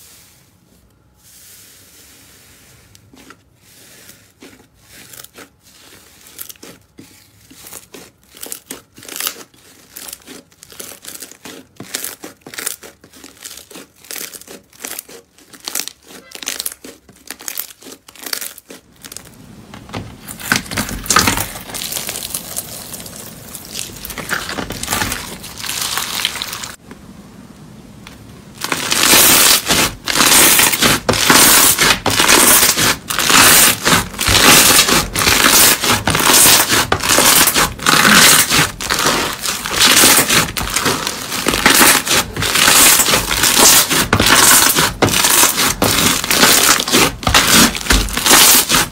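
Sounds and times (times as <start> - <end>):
foamy slime crackling: 1.2 - 27.0, 27.9 - 48.9.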